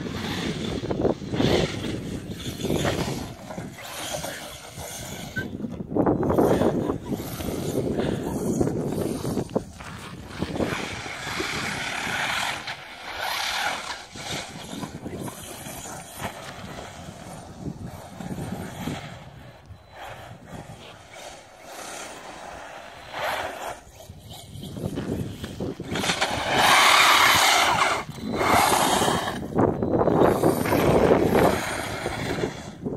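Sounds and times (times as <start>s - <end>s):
electric motor whine of rc car: 0.0s - 32.9s
wind rumbling on microphone: 0.0s - 32.9s.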